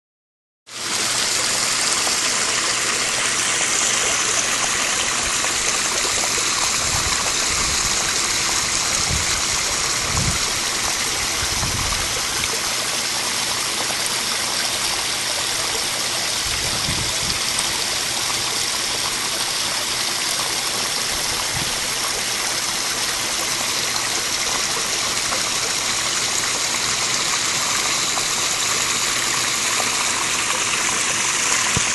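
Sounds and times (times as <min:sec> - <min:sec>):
water splashing over rocks: 0:00.7 - 0:31.9.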